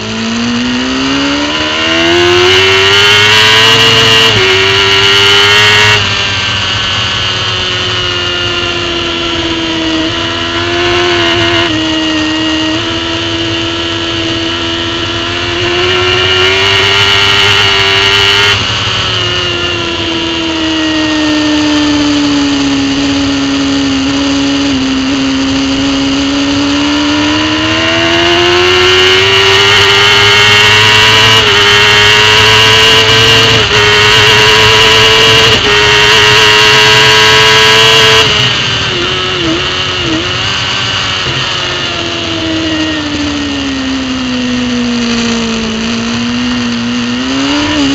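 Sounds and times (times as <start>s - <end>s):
racing motorcycle engine: 0.0s - 47.9s.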